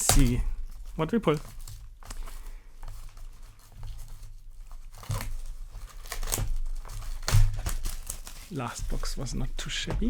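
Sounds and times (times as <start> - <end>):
plastic shrink wrap tearing: 0.0 - 10.0.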